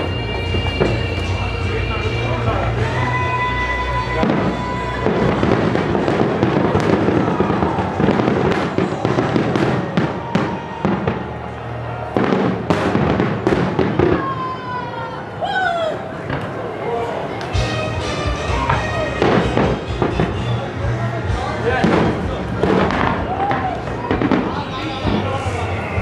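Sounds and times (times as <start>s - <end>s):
fireworks bangs: 0.0s - 15.0s, 16.1s - 26.0s
fireworks crackling: 0.0s - 26.0s.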